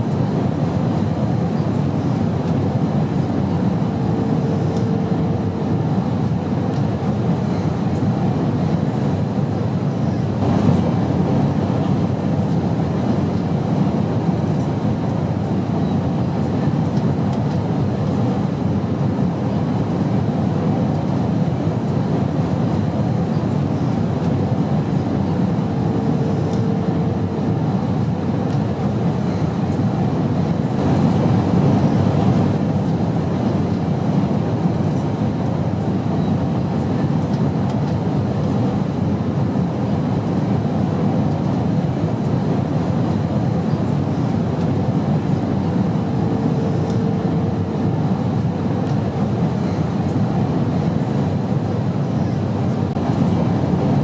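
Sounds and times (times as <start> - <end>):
airplane rumble: 0.0 - 54.0.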